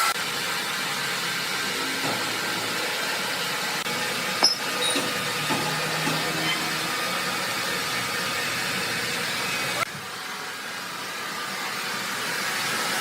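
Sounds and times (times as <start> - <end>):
sawmill machinery hiss: 0.0 - 13.0.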